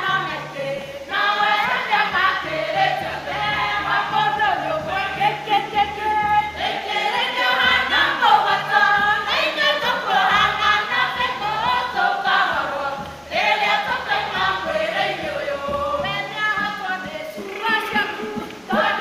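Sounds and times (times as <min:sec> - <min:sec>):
mixed choir singing: 0:00.0 - 0:19.0.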